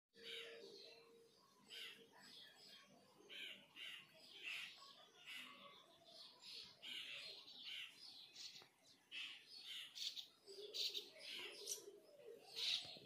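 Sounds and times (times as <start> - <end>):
birds chirping faintly: 0.2 - 13.0.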